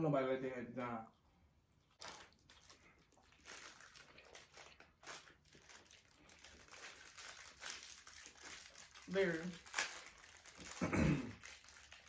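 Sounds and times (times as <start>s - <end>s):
crunching and chewing food: 1.1s - 12.0s.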